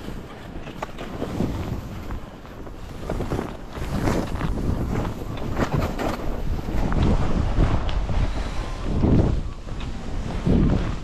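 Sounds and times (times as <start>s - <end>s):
wind rumbling on microphone: 0.0s - 11.0s
skis hissing through snow: 1.1s - 11.0s.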